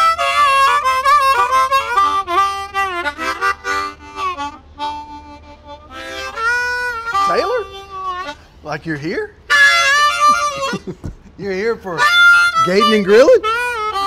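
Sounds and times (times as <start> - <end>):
harmonica playing chords: 0.0 - 14.0.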